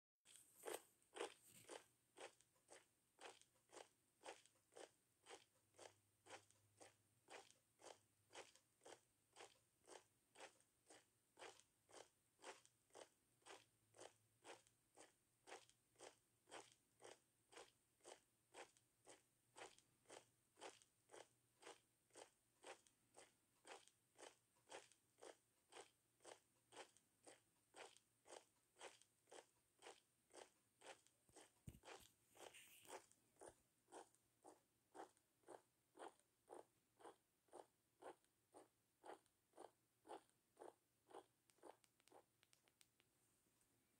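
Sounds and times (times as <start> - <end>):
cat paws kneading blanket: 0.3 - 42.9.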